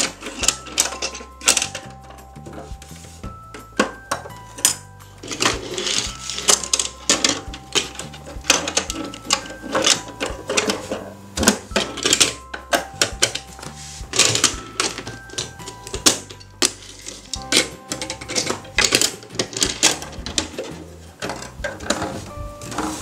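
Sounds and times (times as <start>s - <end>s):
plastic toy doors clattering: 0.0s - 2.8s, 3.5s - 13.5s, 14.1s - 23.0s
plastic toy buses handled: 0.0s - 13.5s, 14.1s - 23.0s
simple background tune: 0.0s - 23.0s.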